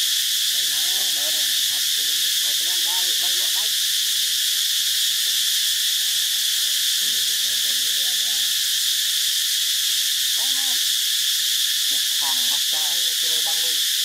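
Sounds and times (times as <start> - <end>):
forest insects droning: 0.0 - 14.0.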